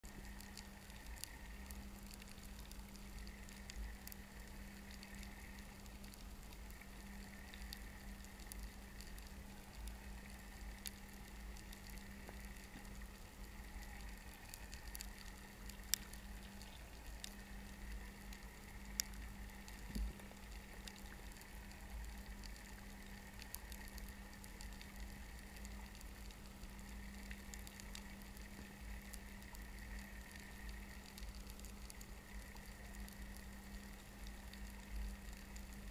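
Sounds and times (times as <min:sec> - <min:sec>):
steady low hum: 0:00.0 - 0:35.9
underwater crackle of small clicks: 0:00.0 - 0:35.9.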